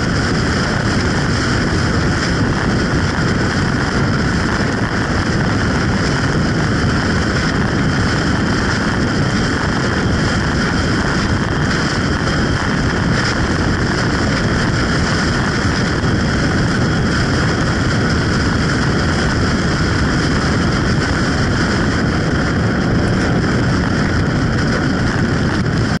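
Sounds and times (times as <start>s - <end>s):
motorcycle engine and tyre noise: 0.0s - 26.0s
wind rushing over microphone: 0.0s - 26.0s.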